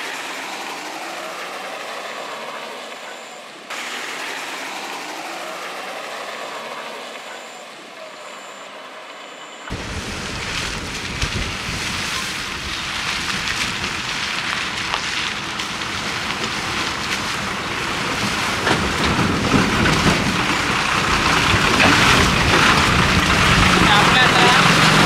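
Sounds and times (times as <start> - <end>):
tyres rushing through mud and water: 0.0 - 25.0.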